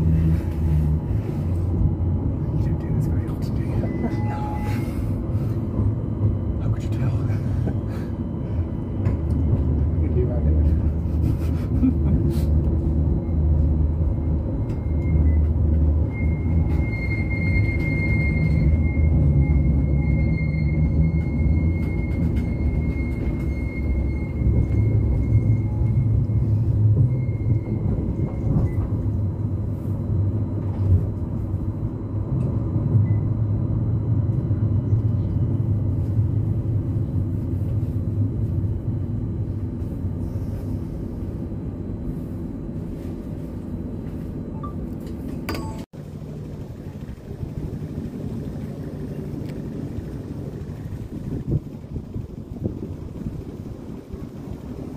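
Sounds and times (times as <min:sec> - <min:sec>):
tram rumbling along track: 0:00.0 - 0:54.9.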